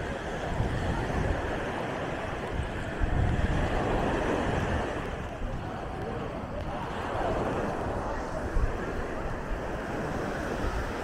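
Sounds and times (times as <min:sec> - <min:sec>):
faint voices of people: 0:00.0 - 0:11.0
small waves breaking on sand: 0:00.0 - 0:11.0
wind buffeting microphone: 0:00.0 - 0:11.0.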